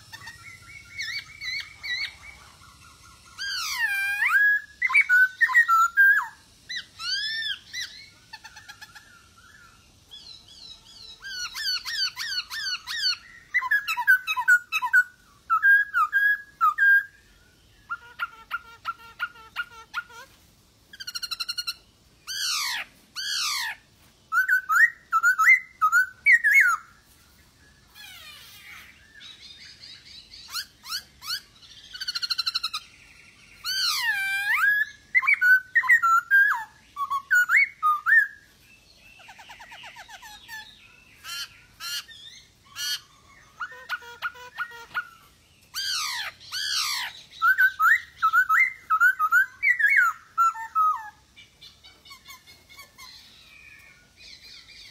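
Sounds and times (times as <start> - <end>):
bird singing whistled phrases: 0.0 - 2.6, 3.2 - 20.2, 21.0 - 27.0, 33.6 - 38.5, 39.2 - 54.9
bird chattering: 0.0 - 17.0, 17.8 - 26.8, 27.9 - 33.0, 39.0 - 54.9.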